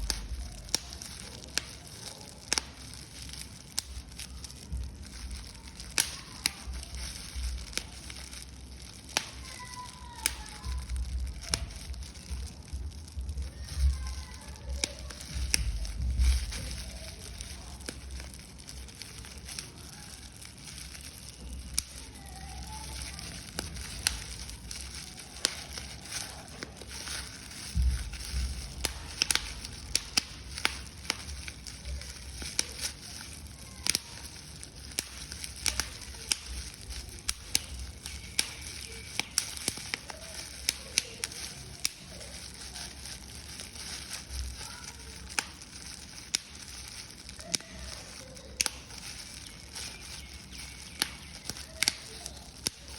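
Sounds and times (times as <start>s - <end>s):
paper being crumpled: 0.0s - 52.9s.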